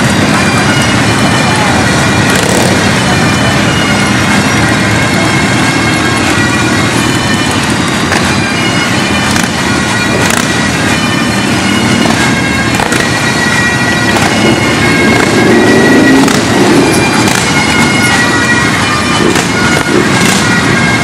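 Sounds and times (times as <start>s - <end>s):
bagpipes playing: 0.0s - 21.0s.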